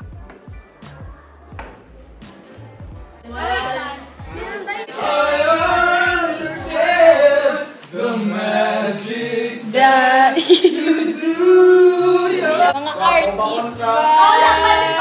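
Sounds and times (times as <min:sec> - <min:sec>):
young voices singing: 0:00.0 - 0:15.0.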